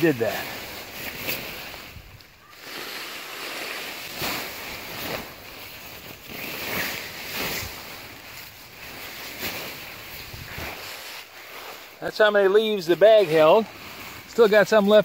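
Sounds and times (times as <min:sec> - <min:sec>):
dry leaves spilling: 0:00.0 - 0:15.0
nylon bag rustling: 0:00.0 - 0:15.0.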